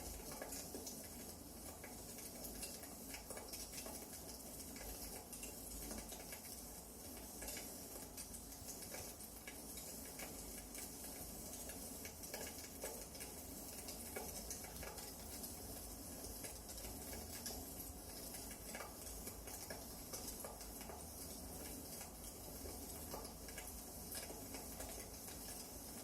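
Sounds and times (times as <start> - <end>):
firewood crackling in fireplace: 0.0 - 26.0.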